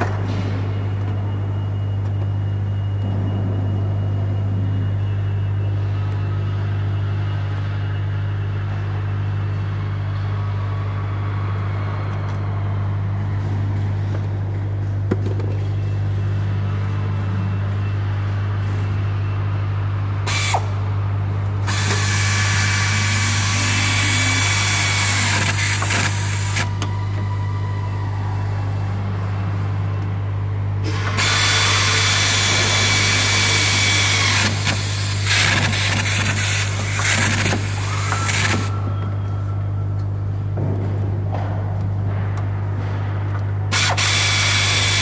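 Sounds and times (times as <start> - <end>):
low factory hum: 0.0 - 45.0.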